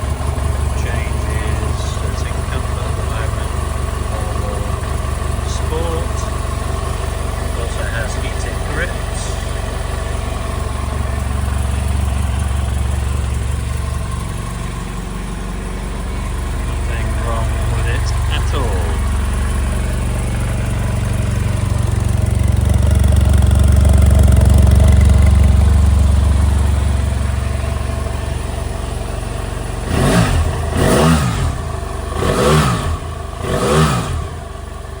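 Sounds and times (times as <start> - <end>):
engine revving: 0.0 - 35.0
motorcycle engine idling: 0.0 - 35.0.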